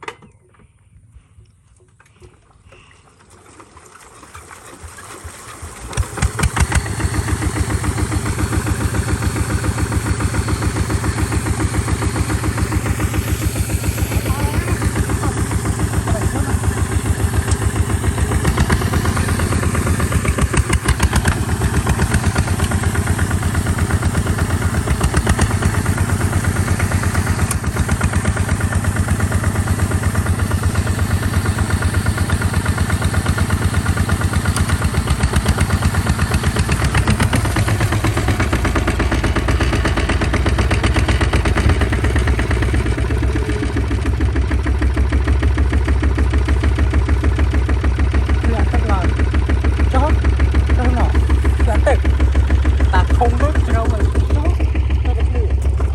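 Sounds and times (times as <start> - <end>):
tractor engine running: 1.8 - 55.9.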